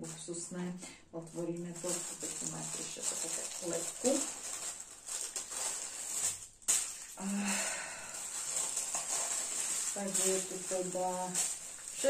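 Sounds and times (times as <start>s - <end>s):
tissue paper rustling: 1.2s - 12.0s.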